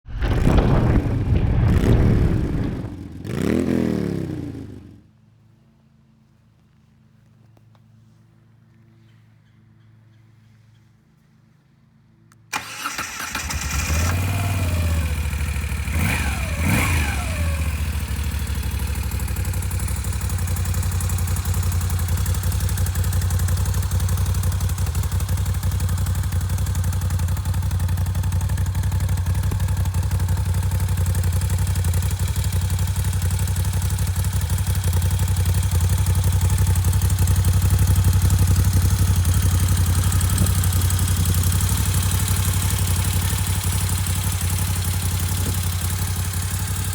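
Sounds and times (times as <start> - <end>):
motorcycle engine revving and idling: 0.1 - 5.0, 12.6 - 46.9.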